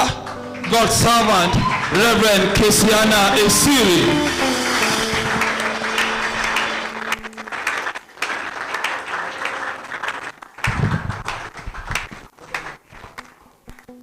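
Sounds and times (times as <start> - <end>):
crowd clapping: 0.0 - 14.0.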